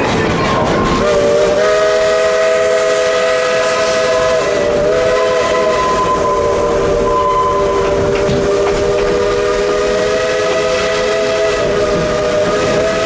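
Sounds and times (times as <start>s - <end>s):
steam locomotive chime whistle: 0.0s - 13.0s
train running noise: 0.0s - 13.0s.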